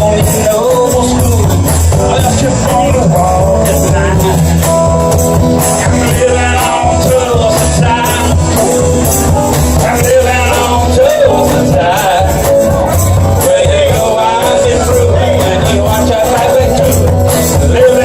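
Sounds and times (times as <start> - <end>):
live rock and roll band: 0.0 - 18.0
person singing: 0.0 - 18.0
steady drum beat: 0.0 - 18.0.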